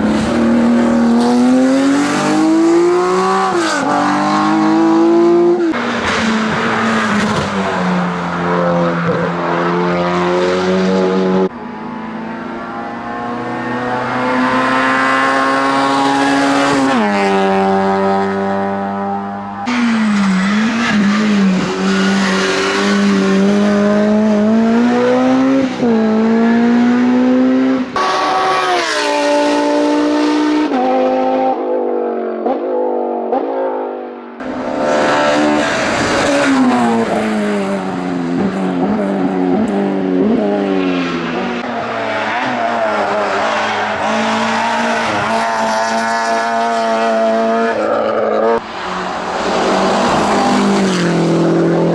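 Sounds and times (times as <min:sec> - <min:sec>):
race car engines revving: 0:00.0 - 0:51.9.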